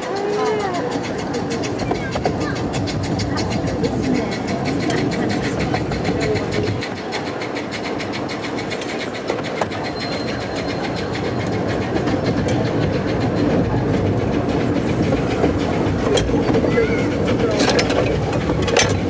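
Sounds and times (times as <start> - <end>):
rapid even clicking: 0.0 - 19.0
train wheels rumbling on rails: 0.0 - 19.0.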